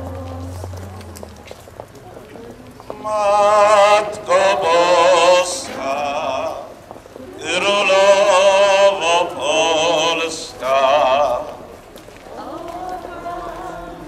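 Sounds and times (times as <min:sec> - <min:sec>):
person singing a hymn: 0:00.0 - 0:01.6, 0:02.4 - 0:14.0.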